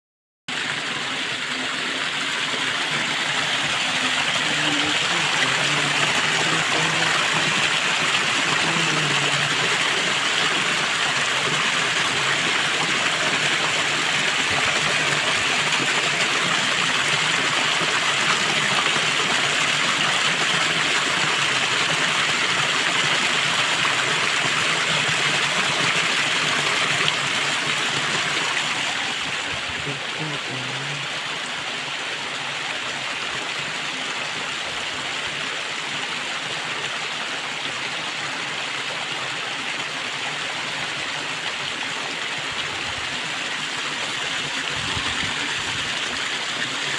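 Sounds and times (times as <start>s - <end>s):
stream water rushing over rocks: 0.5s - 46.9s.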